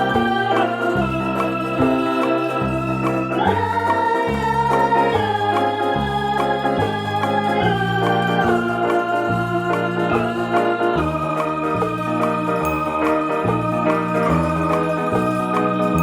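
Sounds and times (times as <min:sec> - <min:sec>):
bass line: 0:00.0 - 0:16.0
held melody notes: 0:00.0 - 0:16.0.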